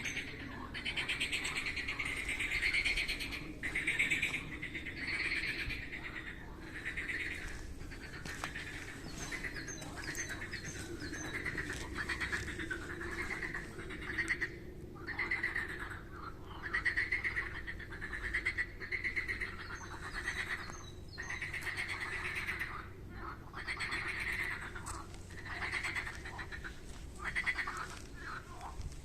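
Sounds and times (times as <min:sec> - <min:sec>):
frogs calling: 0:00.0 - 0:29.0.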